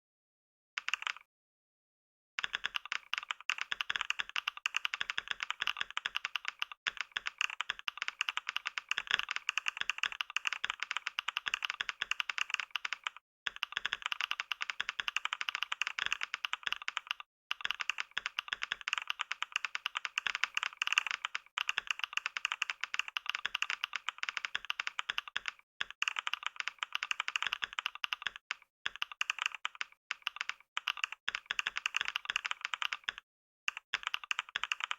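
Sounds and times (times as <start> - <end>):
fast keyboard typing: 0.8 - 1.3, 2.4 - 34.9.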